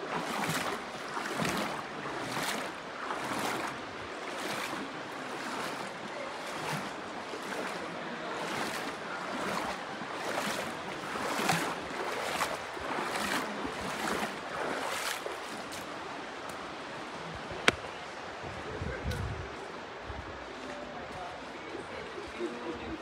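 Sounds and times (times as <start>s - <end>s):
river flowing: 0.0s - 18.7s, 19.5s - 23.0s.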